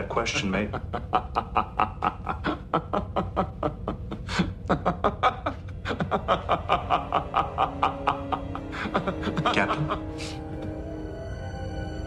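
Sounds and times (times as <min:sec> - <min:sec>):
low held musical tone: 0:00.0 - 0:12.0
man laughing wildly: 0:00.4 - 0:10.4.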